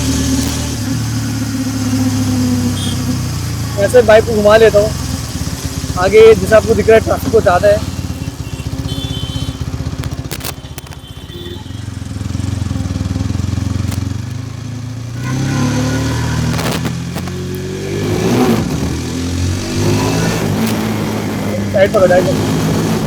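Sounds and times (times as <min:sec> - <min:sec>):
motorcycle engine: 0:00.0 - 0:23.0.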